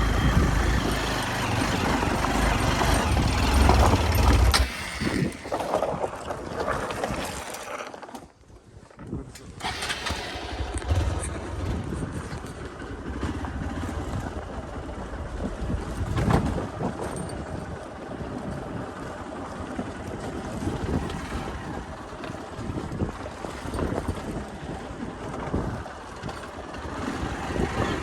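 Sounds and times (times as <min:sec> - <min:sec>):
wind buffeting microphone: 0:00.0 - 0:07.4, 0:09.0 - 0:28.0.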